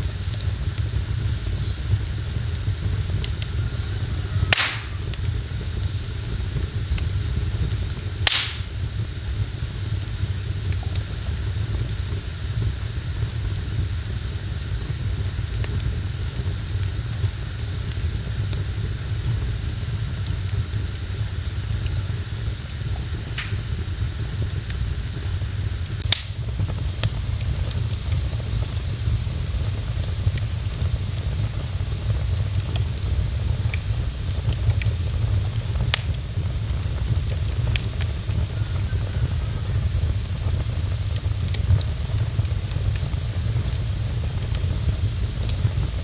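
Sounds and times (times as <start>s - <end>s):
burning wood popping: 0.0s - 46.0s
fire rumbling: 0.0s - 46.0s
rain: 0.0s - 46.0s.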